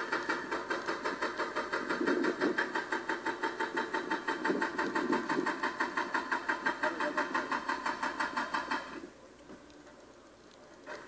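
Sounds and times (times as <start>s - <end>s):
excavator engine clattering: 0.0s - 9.1s.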